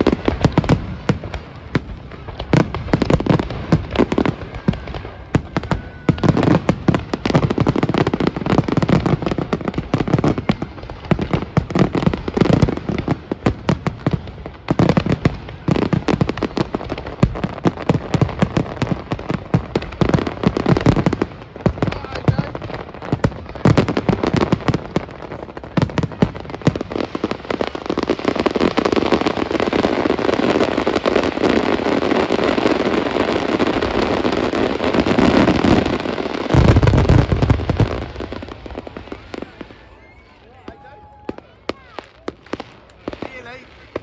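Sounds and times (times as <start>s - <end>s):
deep fireworks booms: 0.0s - 44.0s
fireworks bangs and crackles: 0.0s - 44.0s.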